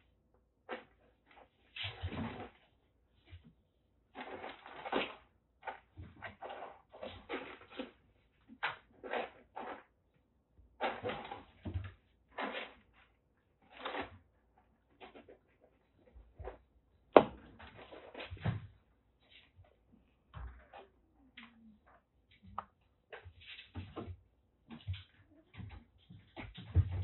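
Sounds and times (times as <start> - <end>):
kittens scuffling and scratching: 0.6 - 10.1, 10.7 - 27.0.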